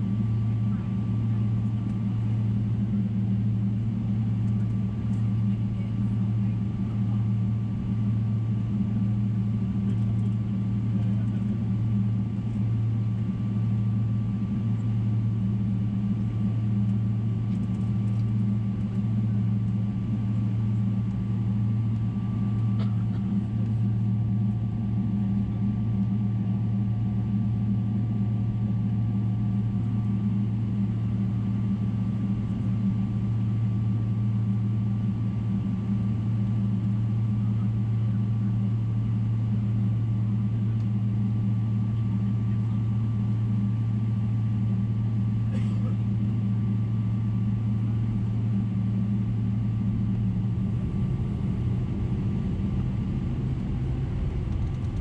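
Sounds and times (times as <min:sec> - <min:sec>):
airplane cabin drone: 0:00.0 - 0:55.0
faint high engine whine: 0:00.0 - 0:55.0.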